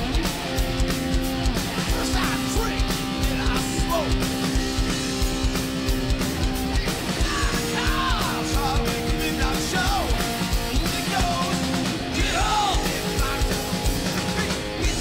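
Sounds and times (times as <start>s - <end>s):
distorted electric guitars: 0.0s - 15.0s
drum kit: 0.0s - 15.0s
high bending guitar lines: 0.0s - 15.0s.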